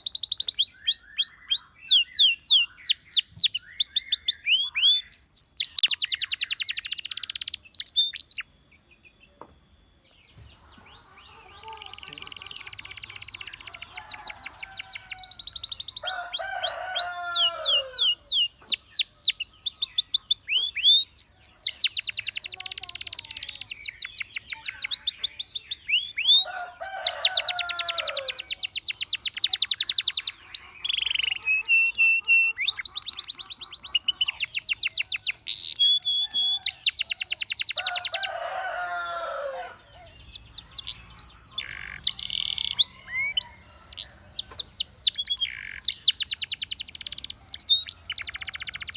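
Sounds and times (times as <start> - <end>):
canary trills and whistles: 0.0 - 8.5, 10.5 - 38.5, 39.8 - 48.9.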